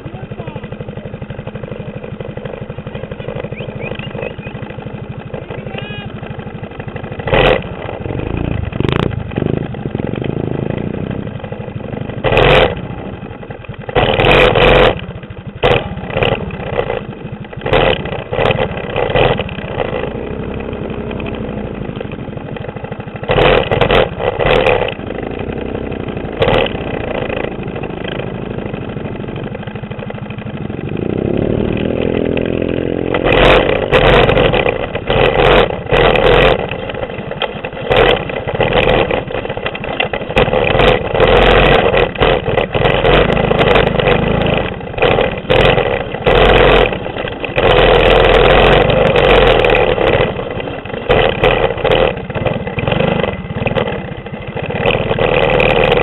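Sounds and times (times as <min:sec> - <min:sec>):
mini bike engines revving: 0:00.0 - 0:56.0.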